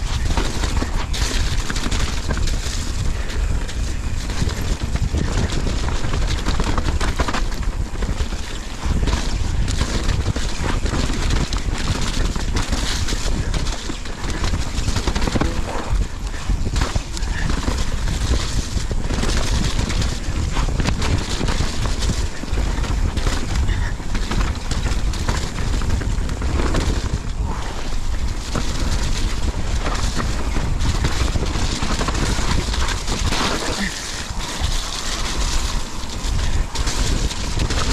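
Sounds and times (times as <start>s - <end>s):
bike clattering and rattling: 0.0s - 37.9s
tyre rumble: 0.0s - 37.9s.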